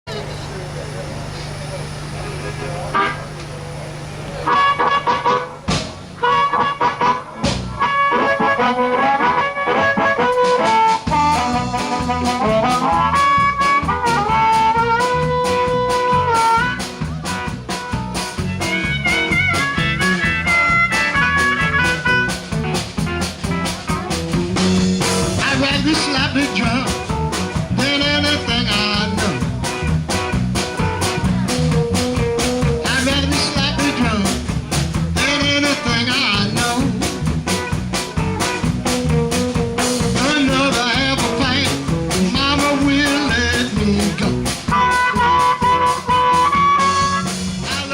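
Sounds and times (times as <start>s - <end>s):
live blues band playing: 0.1s - 47.9s
steady drum beat: 0.1s - 47.9s.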